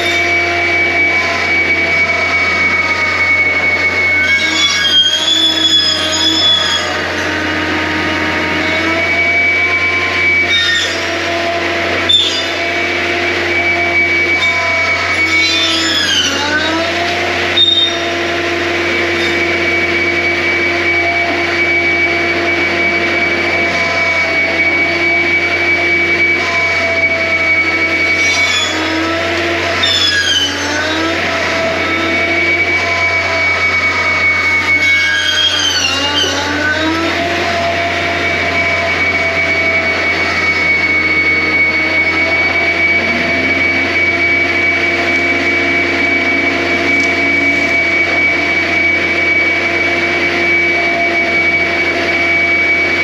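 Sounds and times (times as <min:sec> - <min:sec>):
high hydraulic whining: 0:00.0 - 0:53.0
low engine drone: 0:00.0 - 0:53.0.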